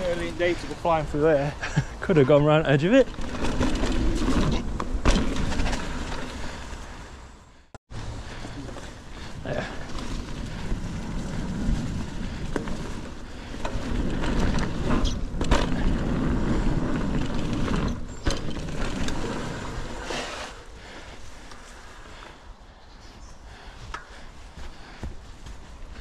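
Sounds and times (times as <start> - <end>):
bike tyres rumbling on dirt: 0.0 - 22.4, 23.1 - 26.0.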